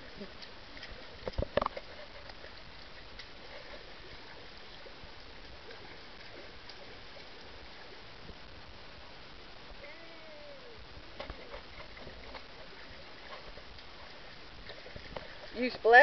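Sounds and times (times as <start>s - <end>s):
pool water splashing: 0.0s - 16.0s
steady water wash: 0.0s - 16.0s.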